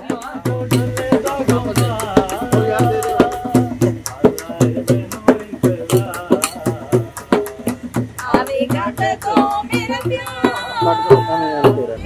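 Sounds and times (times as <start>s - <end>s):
hand drum beating: 0.0s - 12.0s.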